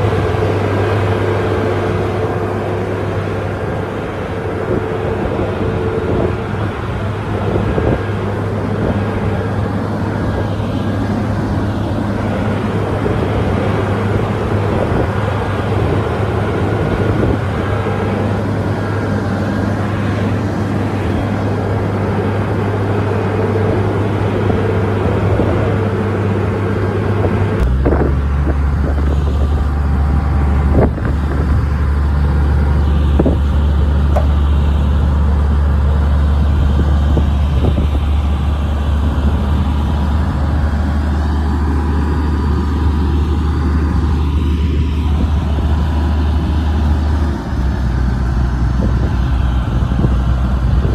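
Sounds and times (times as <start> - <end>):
heavy diesel engine droning: 0.0 - 50.9.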